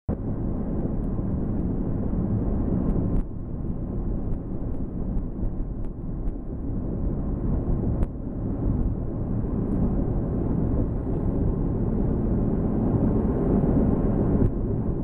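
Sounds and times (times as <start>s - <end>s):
car interior road noise: 0.1s - 15.0s.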